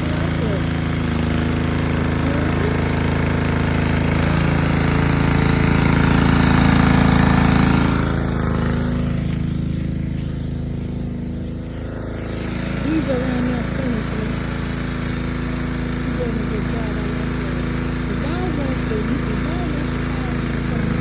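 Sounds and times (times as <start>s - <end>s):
pressure washer engine running: 0.0s - 21.0s.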